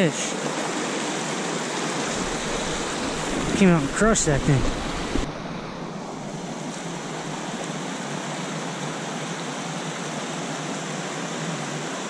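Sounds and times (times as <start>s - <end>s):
stream splashing over rocks: 0.0s - 12.0s.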